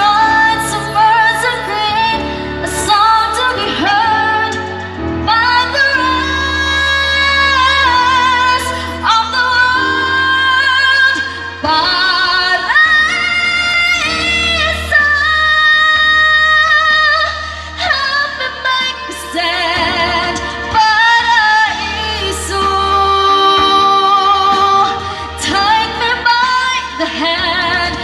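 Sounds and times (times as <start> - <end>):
woman singing into microphone: 0.0 - 28.0.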